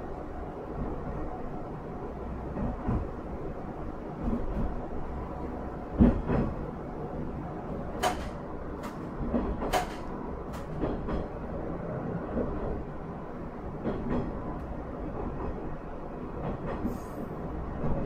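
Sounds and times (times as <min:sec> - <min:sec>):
railcar low rumble: 0:00.0 - 0:18.0.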